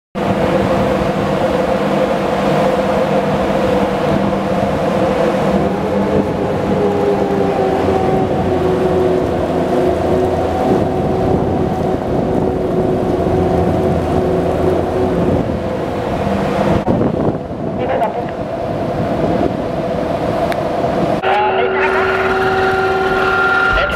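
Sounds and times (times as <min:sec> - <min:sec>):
ship machinery drone: 0:00.2 - 0:23.9.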